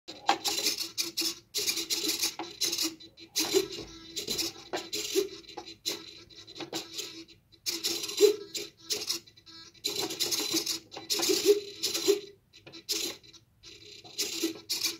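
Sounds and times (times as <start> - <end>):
motors buzzing: 0.1 - 14.9.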